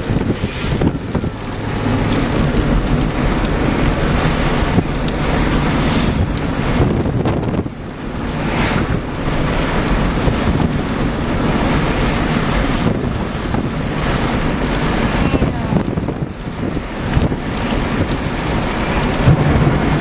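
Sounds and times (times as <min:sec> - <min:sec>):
storm wind buffeting microphone: 0:00.0 - 0:20.0.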